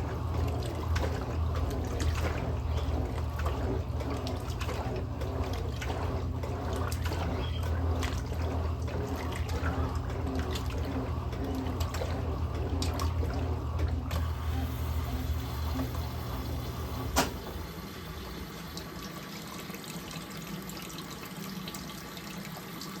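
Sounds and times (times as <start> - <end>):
low motor hum: 0.0 - 19.3
water running in washing machine: 0.0 - 23.0.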